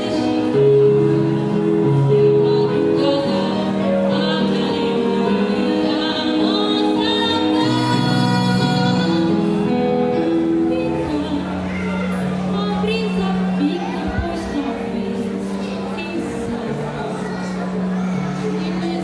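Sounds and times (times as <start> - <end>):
woman singing: 0.0 - 16.8.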